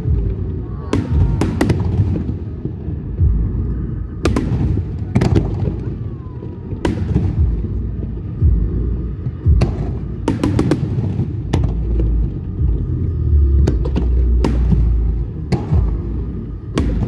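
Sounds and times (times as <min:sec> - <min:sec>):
continuous low rumble: 0:00.0 - 0:17.0
fireworks bangs and crackles: 0:00.0 - 0:17.0.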